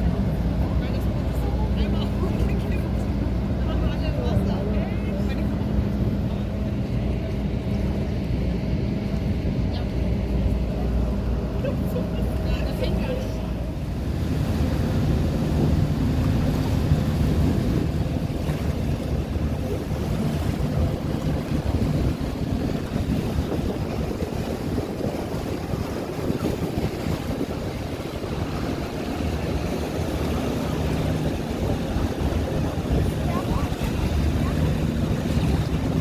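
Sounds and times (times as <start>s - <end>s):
low engine hum: 0.0s - 36.0s
wind buffeting microphone: 0.0s - 36.0s.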